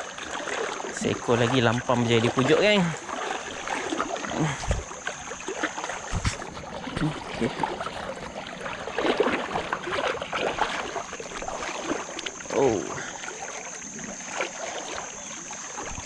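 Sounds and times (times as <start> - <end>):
river current flowing and lapping: 0.0 - 16.0
small splashes: 0.0 - 16.0.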